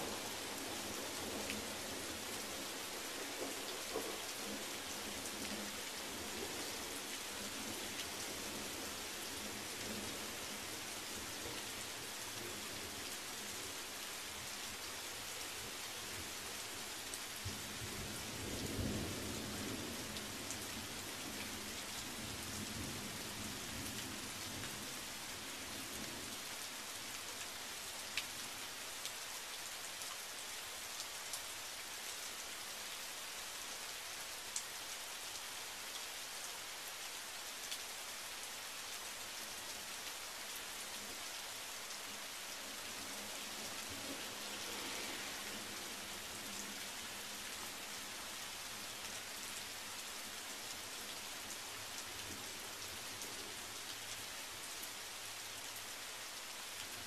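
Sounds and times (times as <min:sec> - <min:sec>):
rain falling on pavement: 0:00.0 - 0:57.0.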